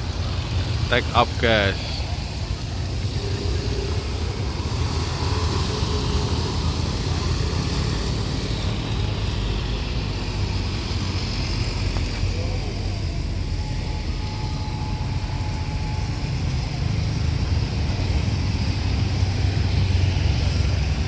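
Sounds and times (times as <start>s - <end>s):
jet engines running up: 0.0s - 21.0s.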